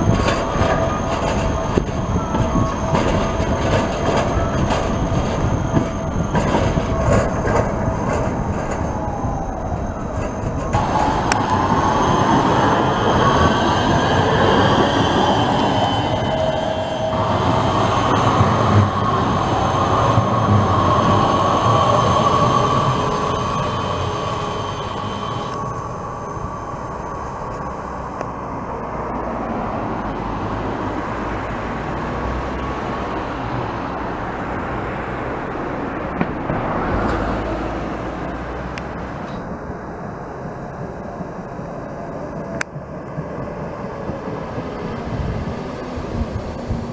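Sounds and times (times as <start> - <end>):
tram motor whine: 0.0 - 46.9
tram wheel rumble: 0.0 - 46.9.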